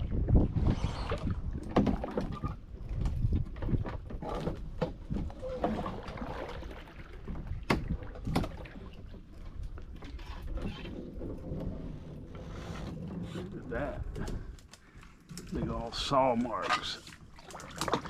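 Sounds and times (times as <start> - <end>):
canoe paddling: 0.0 - 18.0
water sloshing against hull: 0.0 - 18.0.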